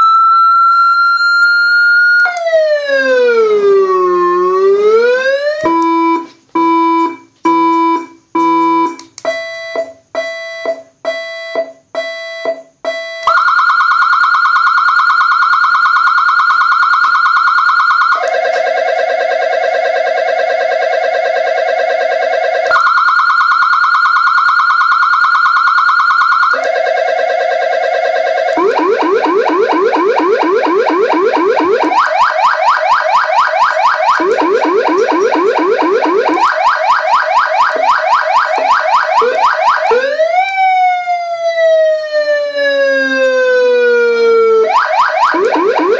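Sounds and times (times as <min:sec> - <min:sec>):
electronic siren warble: 0:00.0 - 0:07.2, 0:16.2 - 0:45.9
electronic siren beeps: 0:00.0 - 0:45.9.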